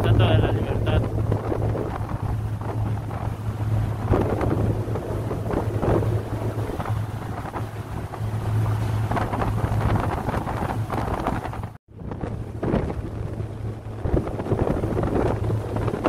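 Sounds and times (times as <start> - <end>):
wind gusting on microphone: 0.0 - 16.0.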